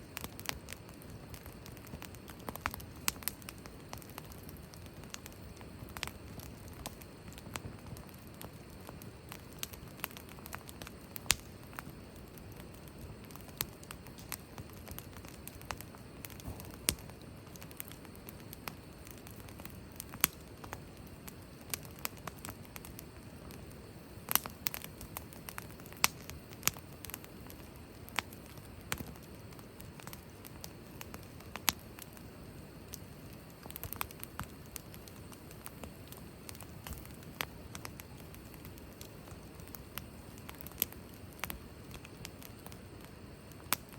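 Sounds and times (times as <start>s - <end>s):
campfire pops and snaps: 0.0s - 43.9s
low hiss of burning: 0.0s - 43.9s.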